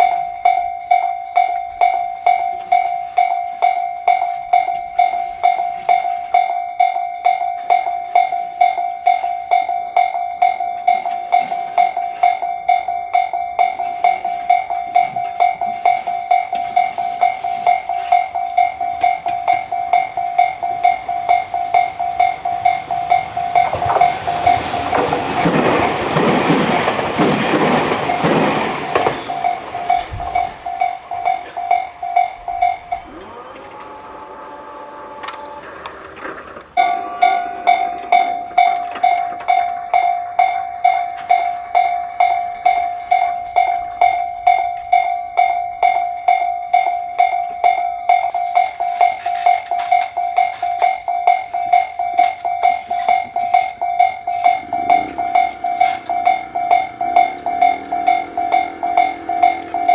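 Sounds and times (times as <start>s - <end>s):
railroad crossing alarm ringing: 0.0s - 59.9s
train rumble: 0.0s - 59.9s.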